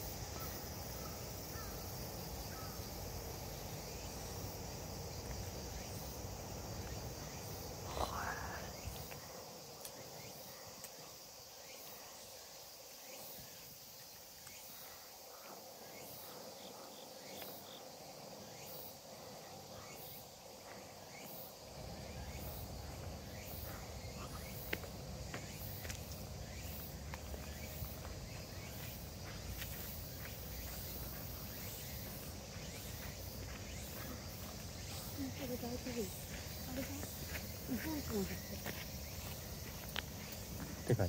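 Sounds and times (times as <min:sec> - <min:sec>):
insects chorus pulsing: 0:00.0 - 0:41.0.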